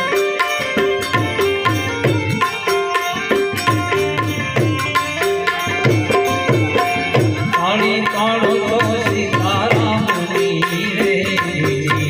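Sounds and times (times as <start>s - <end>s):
hand drum rhythm: 0.0s - 12.0s
harmonium melody: 0.0s - 12.0s.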